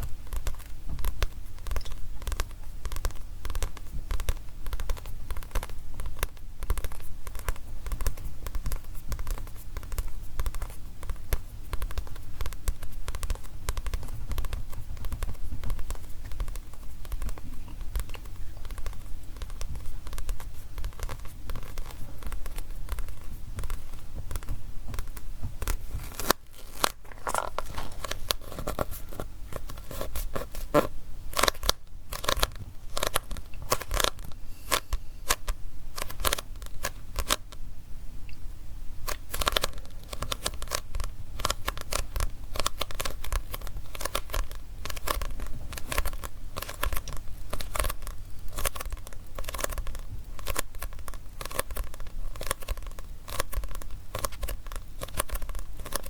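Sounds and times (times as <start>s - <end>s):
fingers tapping on a book: 0.0s - 37.6s, 39.0s - 56.0s.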